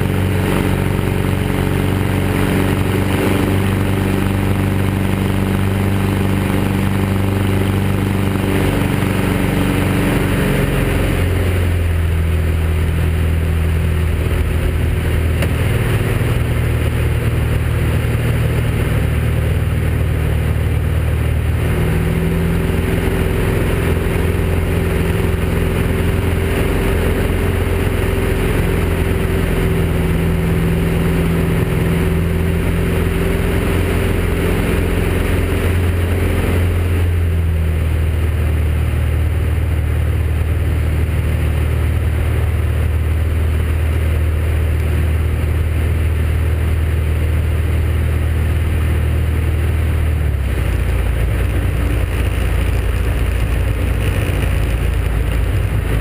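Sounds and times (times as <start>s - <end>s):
propeller engine running: 0.0s - 56.0s.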